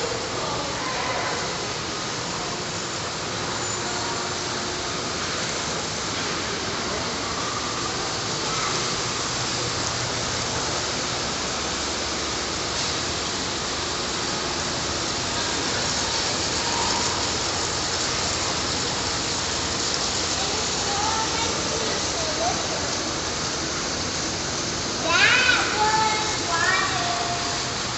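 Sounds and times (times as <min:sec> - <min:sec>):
running water splashing: 0:00.0 - 0:27.9.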